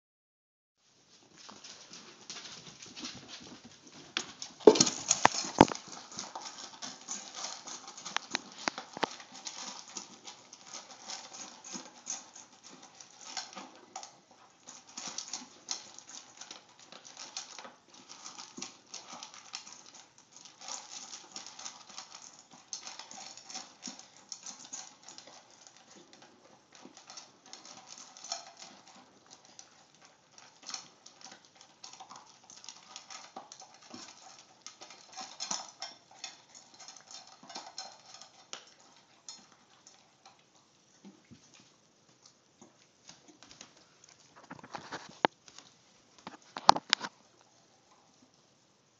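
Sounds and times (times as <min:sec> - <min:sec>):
dog crunching dry food: 0:01.2 - 0:48.6.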